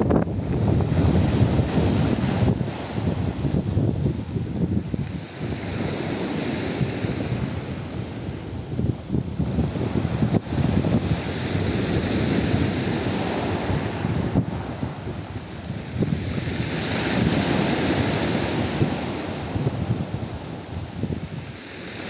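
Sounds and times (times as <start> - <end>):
small waves breaking on shore: 0.0 - 22.0
wind buffeting microphone: 0.0 - 22.0.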